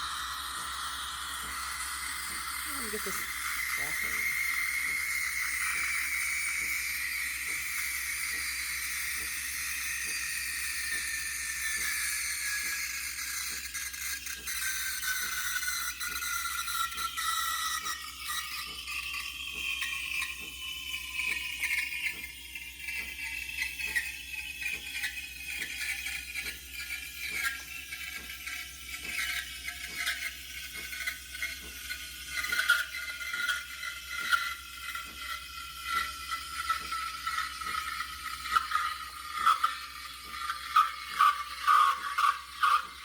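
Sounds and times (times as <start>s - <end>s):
steam wand frothing milk: 0.0s - 43.0s
steady ticking: 0.1s - 43.0s.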